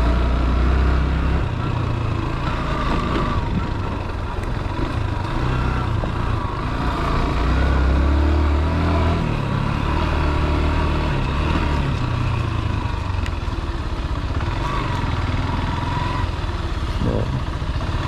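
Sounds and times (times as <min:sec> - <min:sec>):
vehicle engine at low revs: 0:00.0 - 0:18.0.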